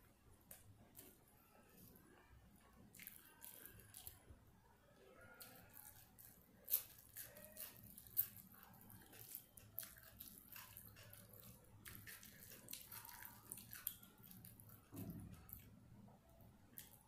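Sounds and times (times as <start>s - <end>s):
wet sticky squelches of eating: 0.5s - 4.3s, 5.0s - 15.8s, 16.4s - 17.0s.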